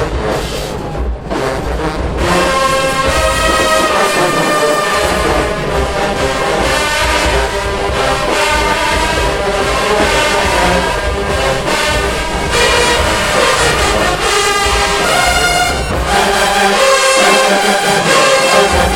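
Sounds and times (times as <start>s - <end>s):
brass sustained chords: 0.0s - 18.9s
marching band playing: 0.0s - 18.9s
steady drum beat: 0.0s - 18.9s.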